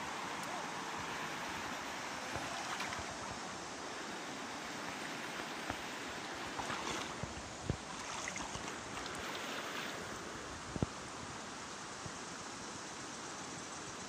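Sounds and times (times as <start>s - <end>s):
stream water rippling over rocks: 0.0s - 13.1s.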